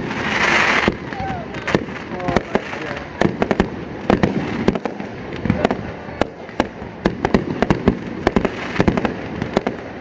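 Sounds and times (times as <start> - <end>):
fireworks bangs and pops: 0.0 - 10.0
fireworks crackle: 0.0 - 10.0.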